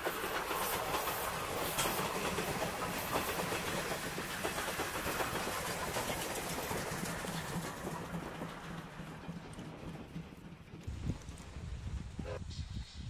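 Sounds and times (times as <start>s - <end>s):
train wheels clacking on rail joints: 0.0s - 12.0s
steam train passing: 0.0s - 13.0s.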